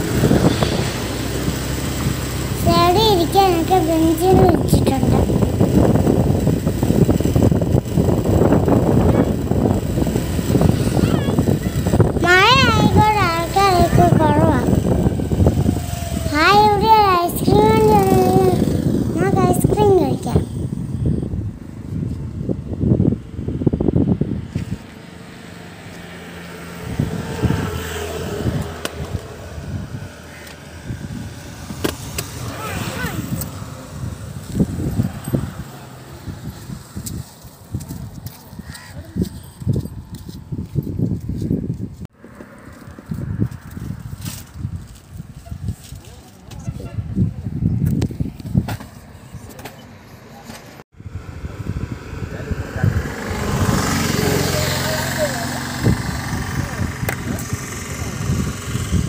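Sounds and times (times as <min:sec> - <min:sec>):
wind buffeting microphone: 0:00.0 - 0:49.6, 0:51.0 - 0:59.0
vehicle engine hum: 0:00.0 - 0:59.0.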